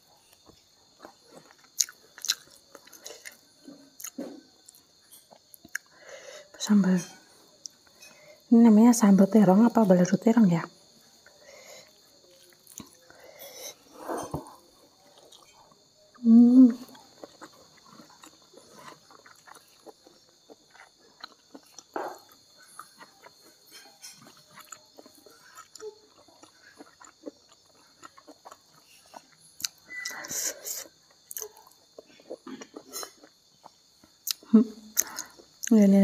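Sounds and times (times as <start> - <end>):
wet chewing and mouth sounds: 0.2 - 6.0, 11.2 - 16.2, 16.8 - 35.8.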